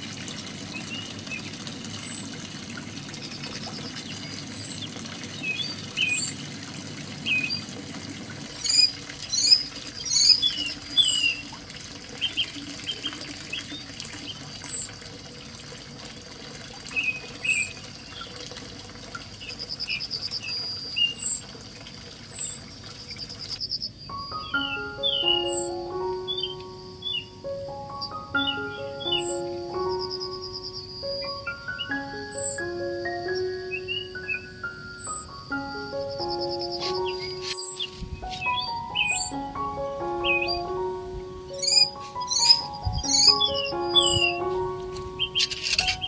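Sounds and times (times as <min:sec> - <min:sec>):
water trickling into a pool: 0:00.0 - 0:46.0
small birds chirping: 0:00.1 - 0:02.5, 0:03.1 - 0:06.6, 0:07.2 - 0:07.8, 0:08.4 - 0:15.1, 0:16.9 - 0:18.4, 0:19.2 - 0:21.6, 0:22.2 - 0:46.0.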